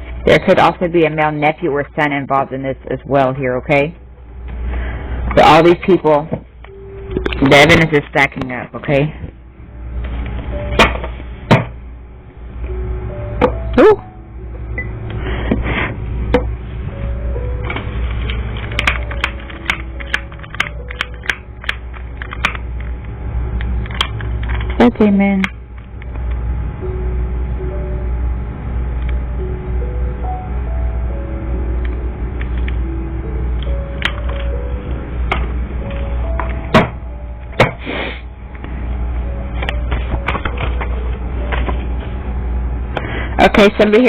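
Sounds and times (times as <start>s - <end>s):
faint background music: 0.0s - 4.5s, 5.3s - 15.1s, 16.2s - 44.0s
steady low hum: 0.0s - 44.0s.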